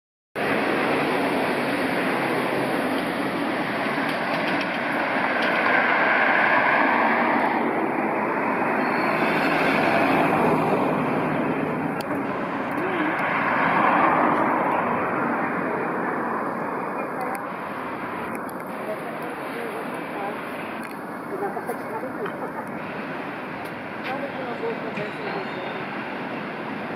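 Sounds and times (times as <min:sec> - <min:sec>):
road traffic: 0:00.4 - 0:26.9
vehicles passing: 0:00.4 - 0:26.9.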